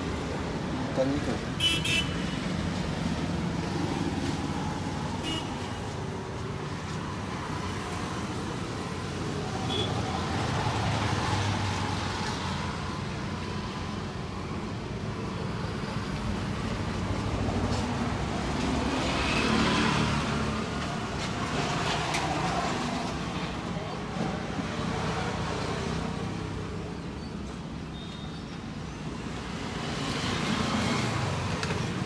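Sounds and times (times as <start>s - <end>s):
road traffic passing: 0.0s - 32.0s.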